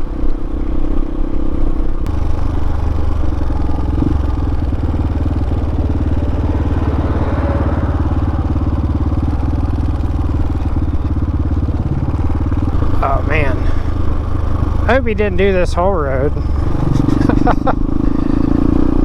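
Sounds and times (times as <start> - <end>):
motorcycle engine running: 0.2 - 19.0.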